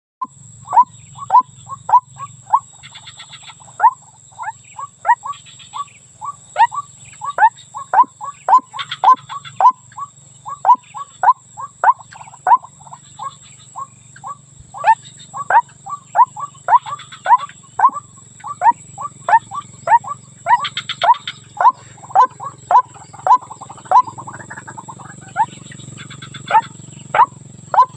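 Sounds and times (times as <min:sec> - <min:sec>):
bird chattering: 0:00.6 - 0:27.9
waterhen calling: 0:00.6 - 0:27.9.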